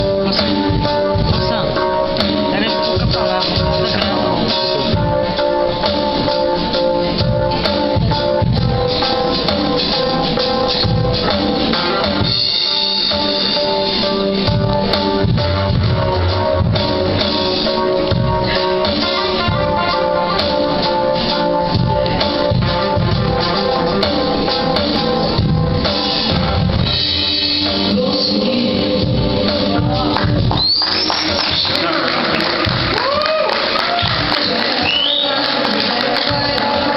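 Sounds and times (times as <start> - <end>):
held keyboard notes: 0.0 - 31.9
bass: 0.0 - 36.9
drums: 0.0 - 36.9
guitar: 0.0 - 36.9.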